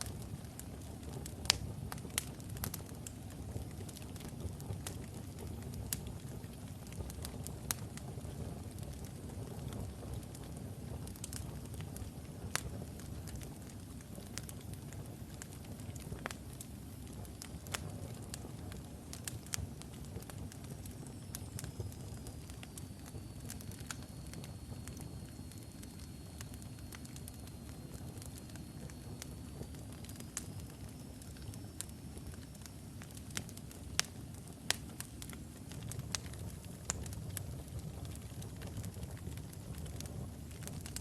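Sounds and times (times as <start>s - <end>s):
low rumble of flames: 0.0s - 41.0s
wood fire crackling: 0.0s - 41.0s.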